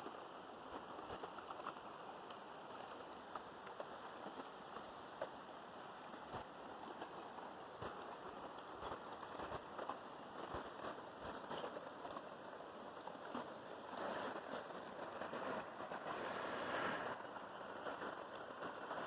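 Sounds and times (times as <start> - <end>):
river water flowing and rippling: 0.0 - 19.0.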